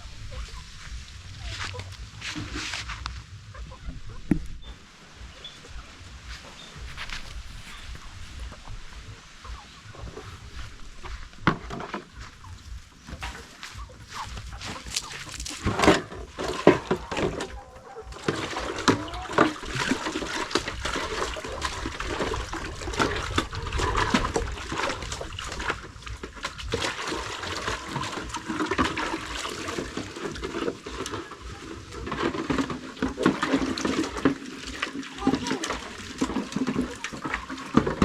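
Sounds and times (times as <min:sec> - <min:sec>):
water splashing: 0:00.0 - 0:38.0.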